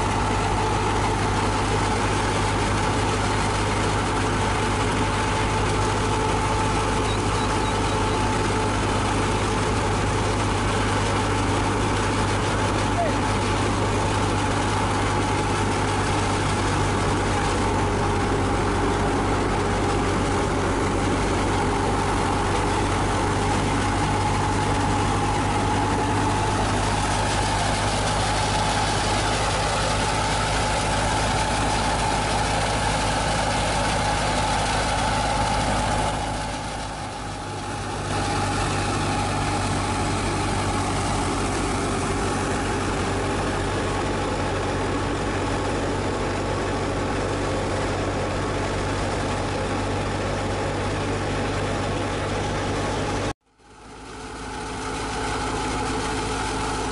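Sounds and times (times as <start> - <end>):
tractor and thresher engine drone: 0.0 - 56.9.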